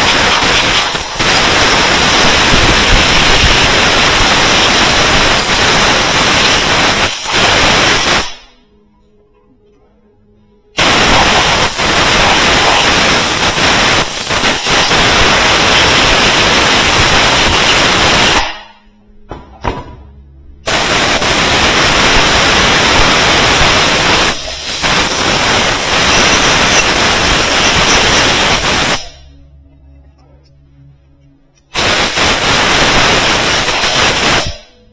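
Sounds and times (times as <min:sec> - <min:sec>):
loud spraying hiss: 0:00.0 - 0:08.6, 0:10.8 - 0:18.7, 0:20.7 - 0:29.3, 0:31.7 - 0:34.8.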